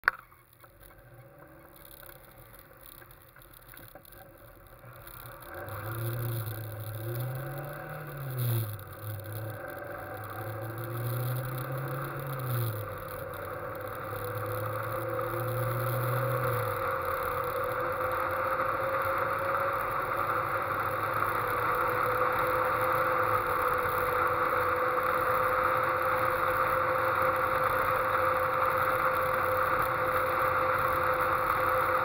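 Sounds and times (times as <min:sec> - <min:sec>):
sports car engine accelerating: 0:00.6 - 0:32.0.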